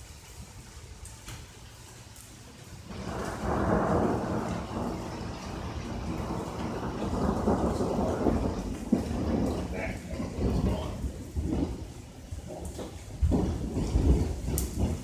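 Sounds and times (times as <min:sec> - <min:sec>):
thunder rumbling: 0:02.7 - 0:15.0.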